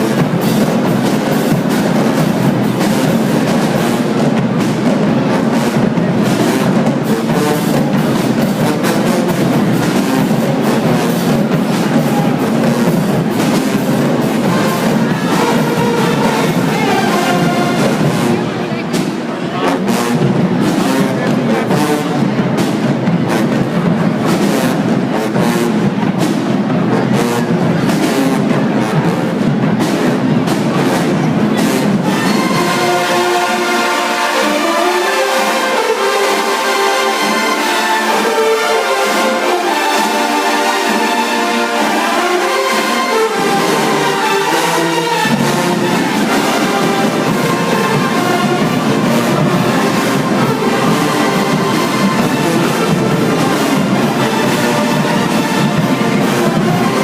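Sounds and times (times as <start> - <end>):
drum and cymbal hits: 0.0 - 57.0
marching band playing: 0.0 - 57.0.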